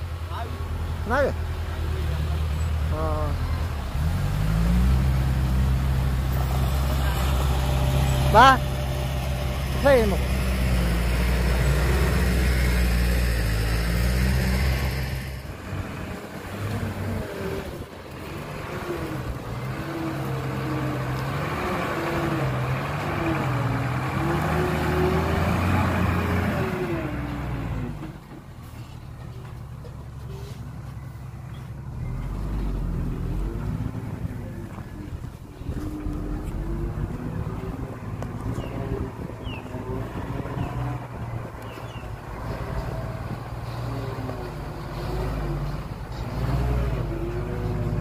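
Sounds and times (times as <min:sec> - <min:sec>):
diesel truck engine revving: 0:00.0 - 0:48.0.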